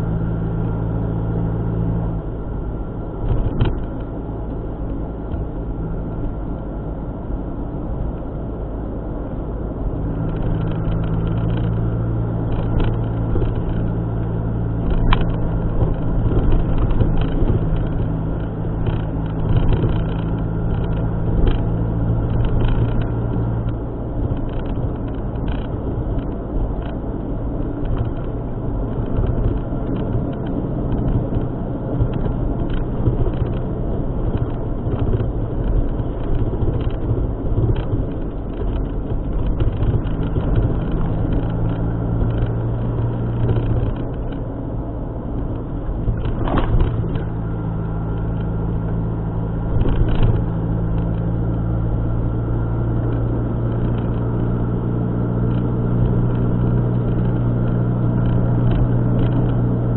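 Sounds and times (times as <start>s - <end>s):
car engine: 0.0s - 59.9s
road noise: 0.0s - 59.9s.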